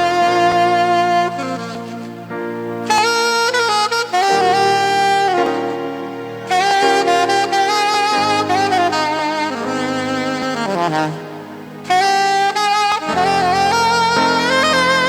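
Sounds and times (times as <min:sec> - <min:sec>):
wind instrument lead melody: 0:00.0 - 0:15.0.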